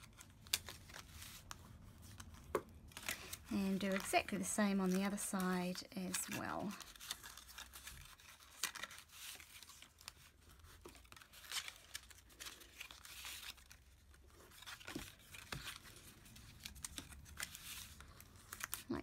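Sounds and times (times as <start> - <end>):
cardstock crackling and rustling: 0.0 - 19.0.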